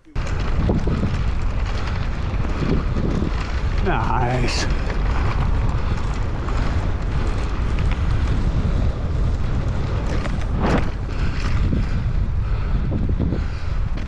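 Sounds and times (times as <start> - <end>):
wind buffeting microphone: 0.2 - 14.0.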